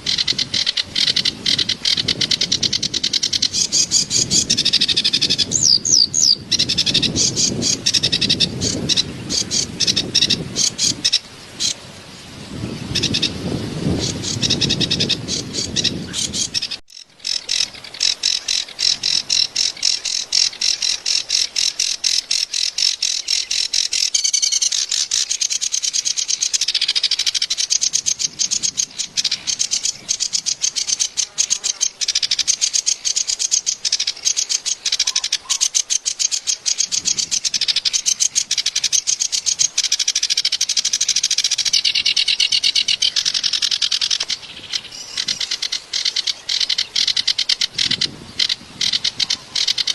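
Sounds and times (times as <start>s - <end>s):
bird chattering song: 0.0s - 11.8s, 12.6s - 49.9s.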